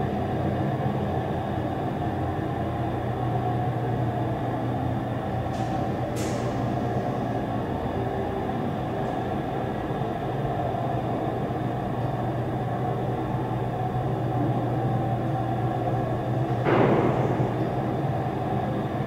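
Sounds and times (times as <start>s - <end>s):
elevator hum and rumble: 0.0s - 19.0s.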